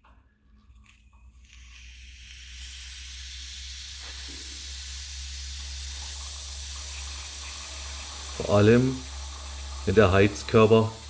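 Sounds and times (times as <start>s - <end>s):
air hissing from valve: 1.3s - 11.0s.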